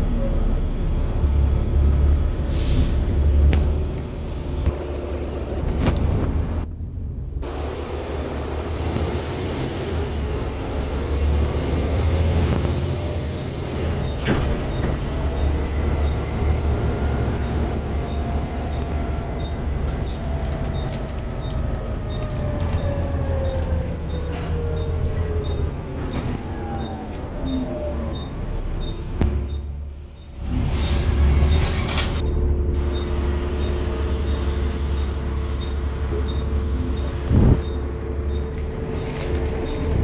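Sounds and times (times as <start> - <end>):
bus engine droning: 0.0 - 40.0.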